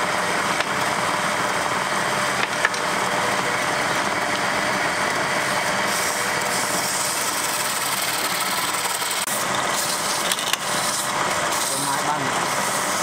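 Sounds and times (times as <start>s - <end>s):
lathe motor humming: 0.0s - 13.0s
chisel cutting wood on lathe: 0.5s - 13.0s.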